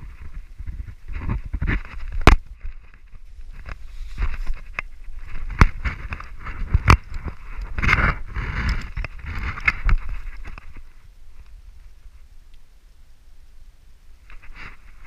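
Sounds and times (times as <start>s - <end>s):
camera rubbing against clothing: 0.0s - 12.3s, 14.2s - 15.0s.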